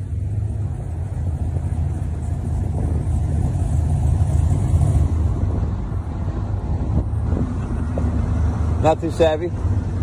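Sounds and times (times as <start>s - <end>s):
car engine rumbling at low revs: 0.0s - 10.0s.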